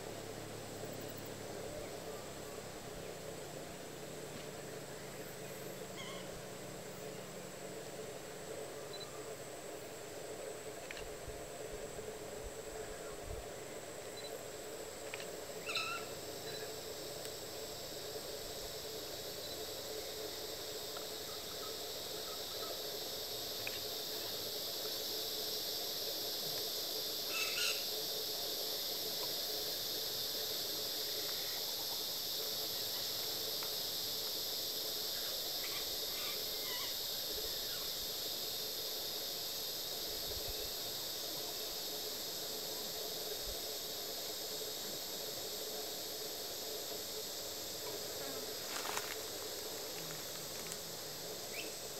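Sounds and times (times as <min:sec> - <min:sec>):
insects chorus: 0:00.0 - 0:51.9
short insect calls: 0:00.0 - 0:51.9.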